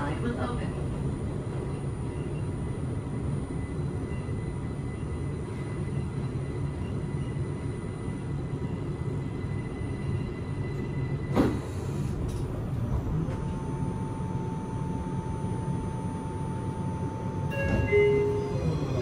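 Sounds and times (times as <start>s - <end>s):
faint steady whine: 0.0s - 19.0s
train low rumble: 0.0s - 19.0s.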